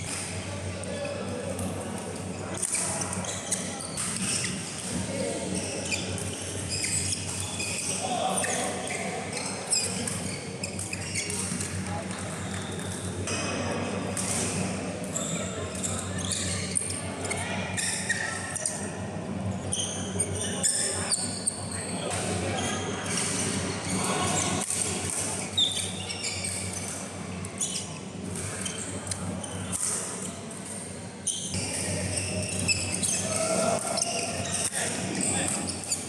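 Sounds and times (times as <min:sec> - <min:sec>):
shoes squeaking on court: 0:01.6 - 0:36.0.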